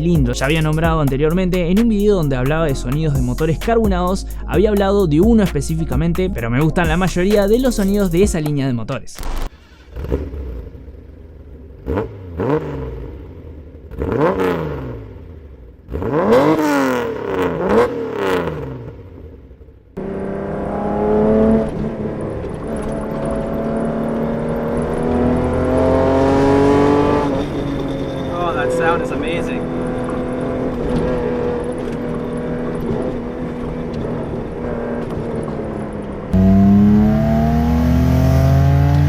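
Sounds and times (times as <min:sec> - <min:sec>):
car engine revving: 0:00.0 - 0:08.4, 0:09.2 - 0:19.2, 0:20.0 - 0:39.0.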